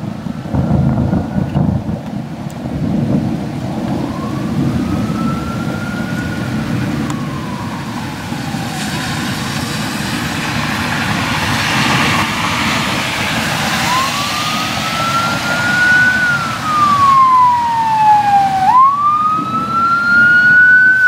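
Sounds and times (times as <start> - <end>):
rain: 0.0 - 21.0
thunderstorm rumble: 0.0 - 21.0
distant siren wailing: 3.2 - 21.0.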